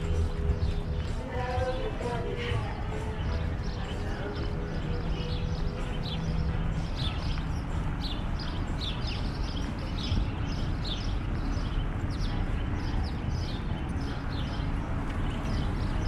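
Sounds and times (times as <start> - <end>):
small birds chirping: 0.0 - 16.0
street noise rumble: 0.0 - 16.0.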